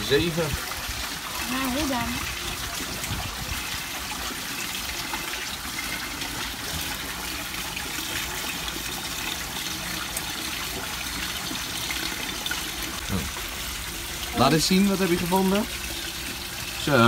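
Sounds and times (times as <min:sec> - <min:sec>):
water trickling into trough: 0:00.0 - 0:17.0.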